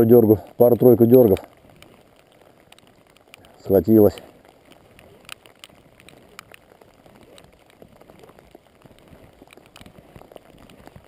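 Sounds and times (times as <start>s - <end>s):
rain falling: 0.0s - 11.0s
sharp drips tapping: 0.0s - 11.0s.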